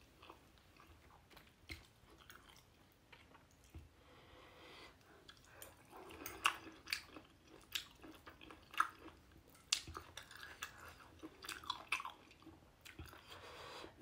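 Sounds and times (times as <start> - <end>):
person chewing with wet smacks: 0.0 - 4.0, 5.0 - 13.6.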